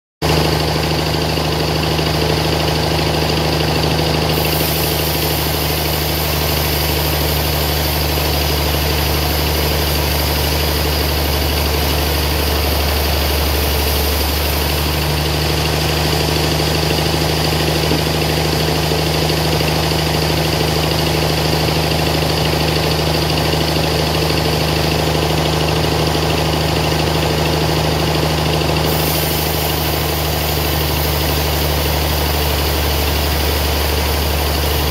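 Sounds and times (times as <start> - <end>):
band saw cutting log: 0.2 - 34.9.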